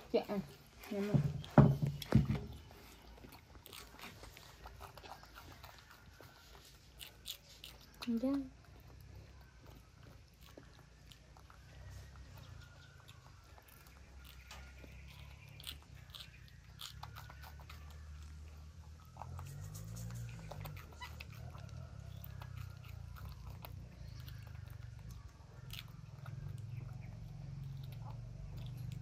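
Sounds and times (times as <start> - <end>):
monkeys crunching pea pods: 0.0 - 29.0.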